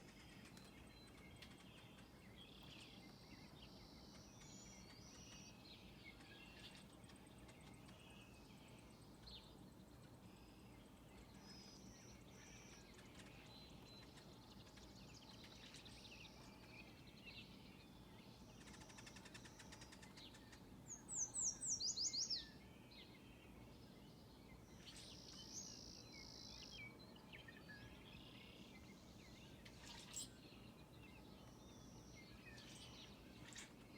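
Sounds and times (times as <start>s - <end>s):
low background noise: 0.0s - 33.9s
songbirds singing: 0.0s - 33.9s.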